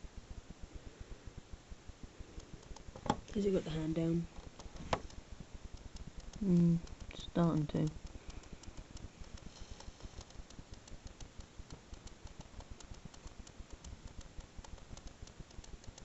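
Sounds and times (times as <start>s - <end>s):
faint irregular clicking: 1.4s - 16.0s.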